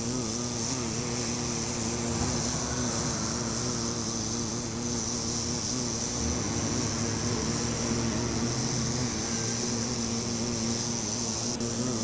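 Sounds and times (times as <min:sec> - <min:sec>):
background hiss: 0:00.0 - 0:12.0
bumblebee buzzing: 0:00.0 - 0:12.0.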